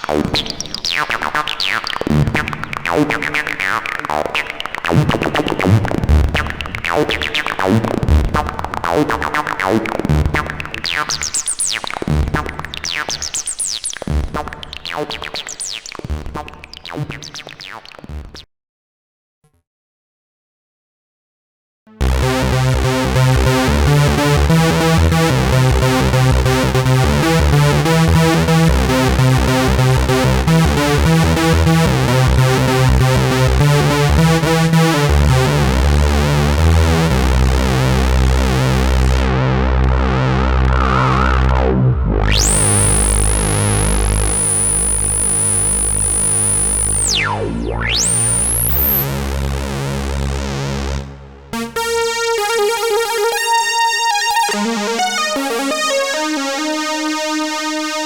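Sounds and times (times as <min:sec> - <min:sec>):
synthesizer sequenced bass pattern: 0:00.0 - 0:18.4, 0:21.9 - 0:58.0.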